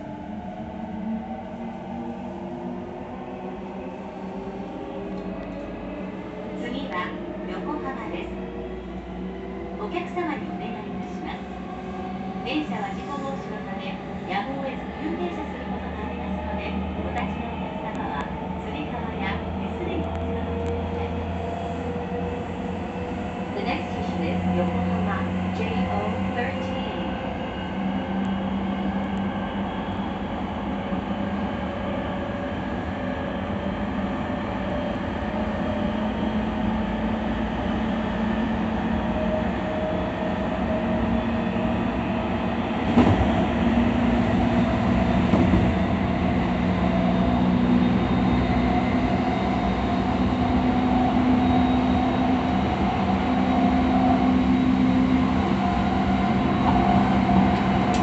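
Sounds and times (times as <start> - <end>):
train wheel rumble: 4.3 - 58.0.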